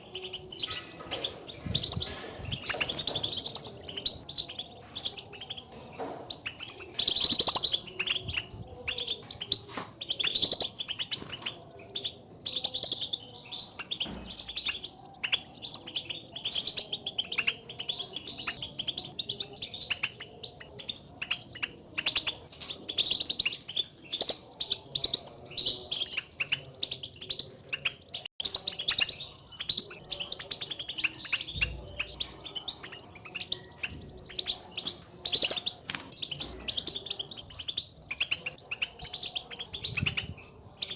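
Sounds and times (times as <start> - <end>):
goldfinches chirping: 0.0 - 40.9.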